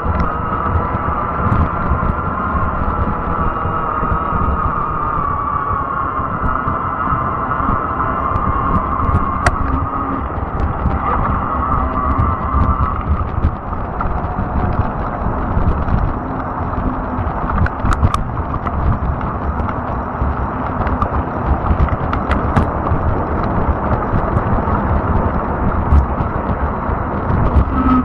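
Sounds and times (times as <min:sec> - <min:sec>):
sharp clicks and ticks: 0:00.0 - 0:05.4, 0:06.3 - 0:28.0
bike tires rumbling on rough ground: 0:00.0 - 0:28.0.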